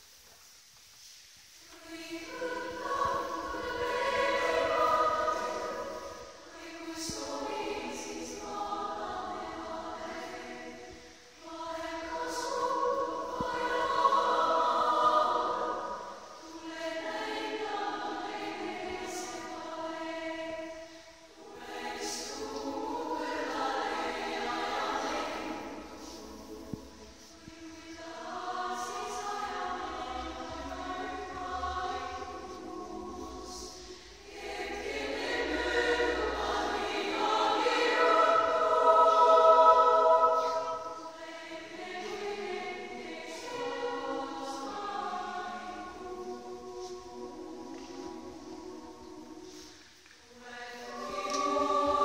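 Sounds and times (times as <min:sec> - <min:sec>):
women's choir singing: 0:01.6 - 0:52.0.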